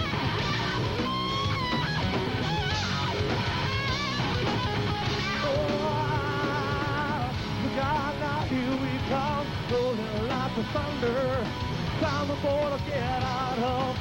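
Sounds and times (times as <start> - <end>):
electric guitar lead with bent notes: 0.0 - 14.0
live rock band playing: 0.0 - 14.0.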